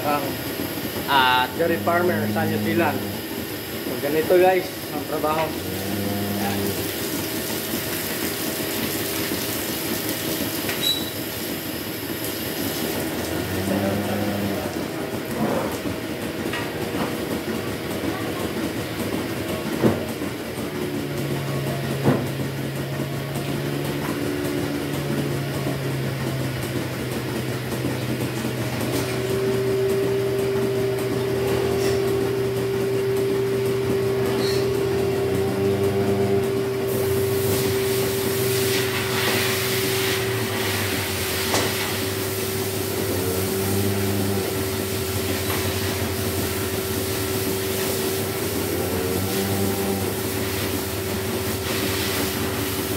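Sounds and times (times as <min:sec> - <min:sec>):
milking machine humming: 0:00.0 - 0:52.9.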